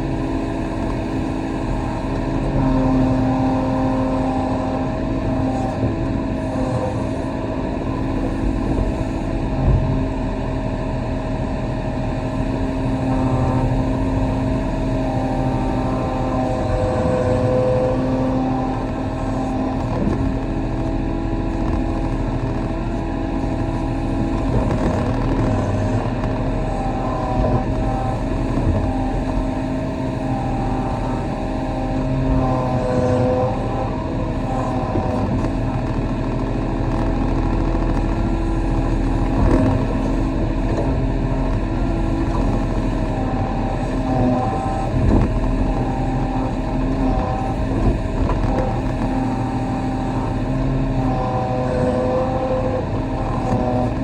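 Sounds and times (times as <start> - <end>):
excavator diesel engine running: 0.0 - 54.0
hydraulic whine: 0.0 - 54.0.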